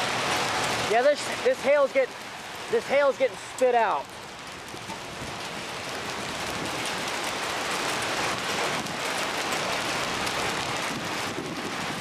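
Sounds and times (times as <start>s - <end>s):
rain and hail pelting: 0.0s - 12.0s.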